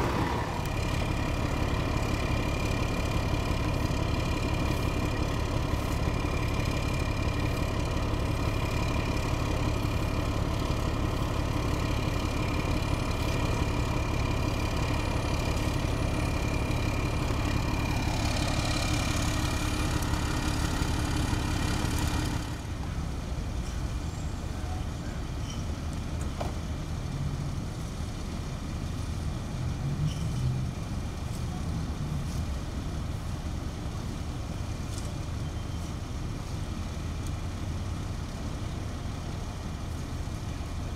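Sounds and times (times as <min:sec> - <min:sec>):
road traffic noise: 0:00.0 - 0:40.9
vehicle engine idling: 0:00.0 - 0:40.9.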